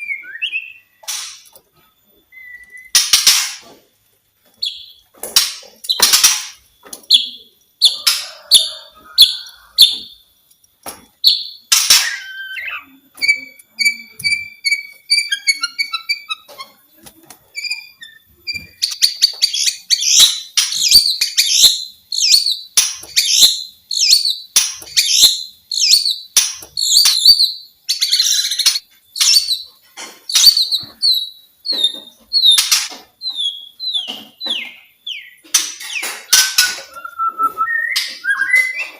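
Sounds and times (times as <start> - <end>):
bird singing: 0.0 - 1.0, 2.2 - 3.0, 6.8 - 10.3, 11.2 - 16.8, 17.6 - 38.9.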